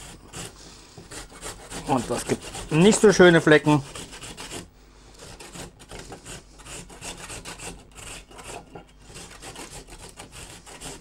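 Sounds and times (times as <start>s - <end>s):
grating on metal hand grater: 0.0s - 11.0s.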